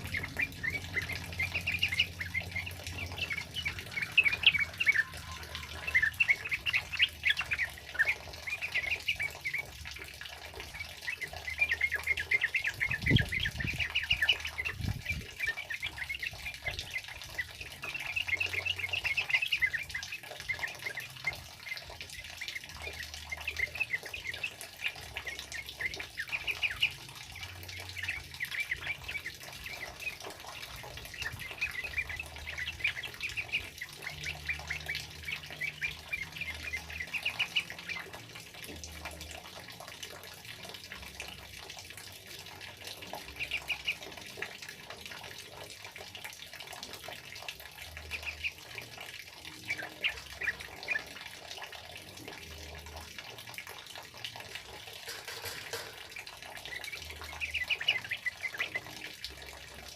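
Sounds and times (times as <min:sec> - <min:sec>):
birds singing in chattering bursts: 0:00.0 - 0:59.9.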